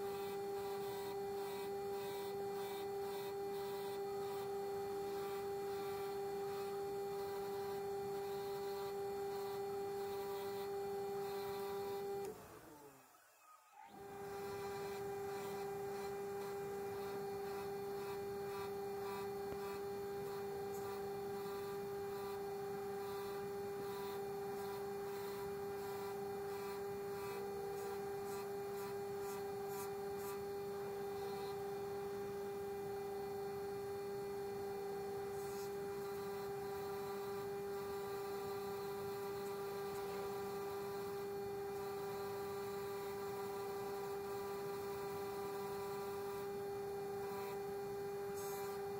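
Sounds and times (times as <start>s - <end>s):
electric grinder motor hum: 0.0s - 12.7s, 13.9s - 48.9s.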